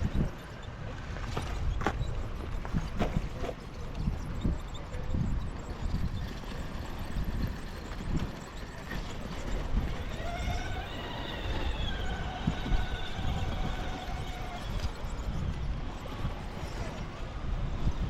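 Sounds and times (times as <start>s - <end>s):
motor and gear whine: 0.0s - 18.0s.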